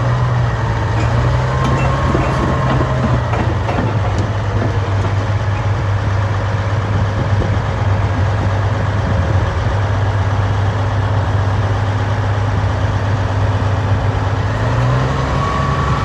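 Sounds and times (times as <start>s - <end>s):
diesel engine idling: 0.0s - 14.7s.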